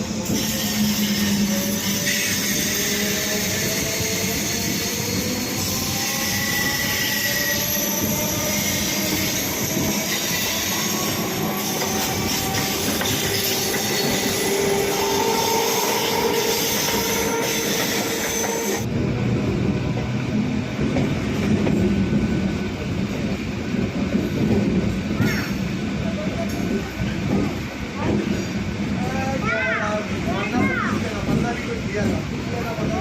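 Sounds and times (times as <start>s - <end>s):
electric train rumble and motor whine: 0.0s - 33.0s.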